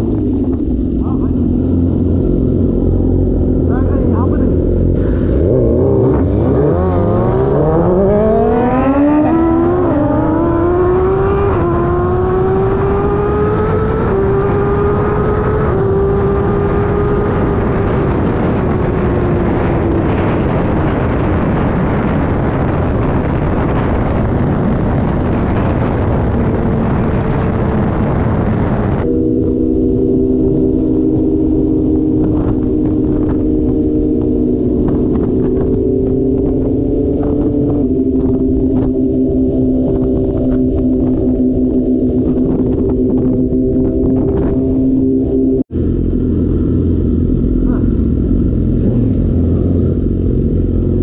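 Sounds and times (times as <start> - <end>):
motorcycle engine accelerating: 0.0 - 51.0
wind rush on microphone: 0.0 - 51.0.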